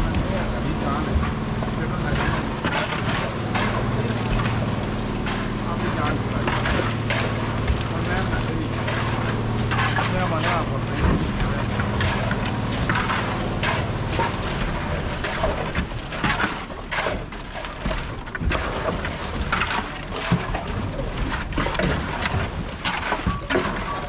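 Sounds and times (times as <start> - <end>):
construction knocks and clatter: 0.0 - 24.0.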